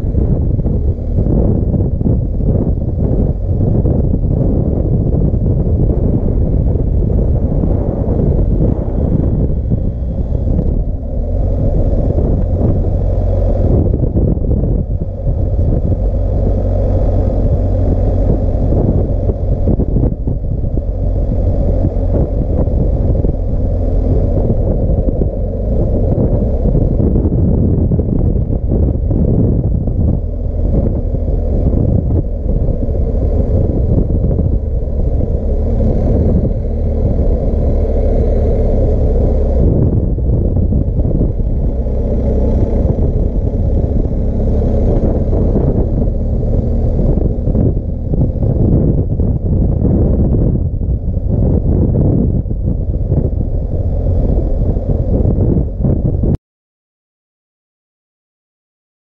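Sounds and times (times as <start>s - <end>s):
motorcycle engine cruising: 0.0s - 56.4s
wind rumble on microphone: 0.0s - 56.4s.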